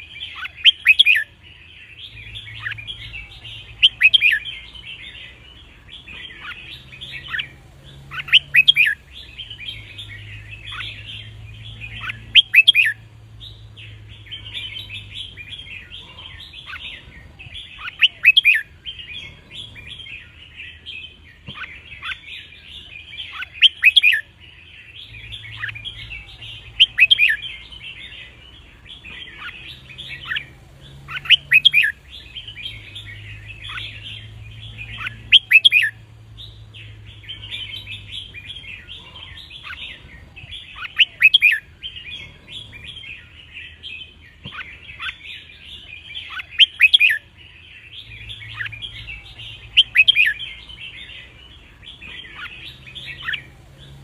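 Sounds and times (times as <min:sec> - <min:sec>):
bulbuls singing: 0:00.0 - 0:54.0
continuous bird twittering: 0:00.0 - 0:54.0.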